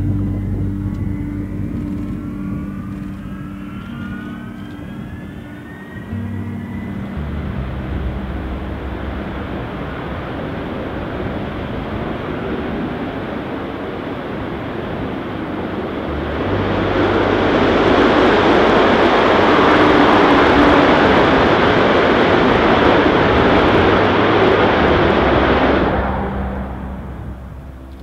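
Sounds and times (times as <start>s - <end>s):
loud jet roar: 0.0s - 28.0s.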